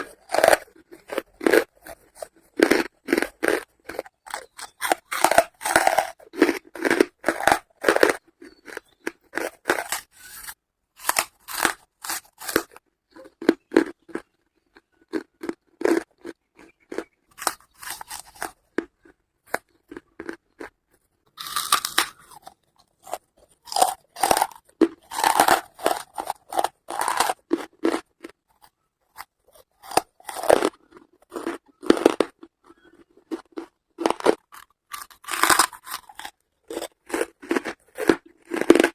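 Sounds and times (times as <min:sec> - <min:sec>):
charcoal being chewed: 0:00.0 - 0:38.9.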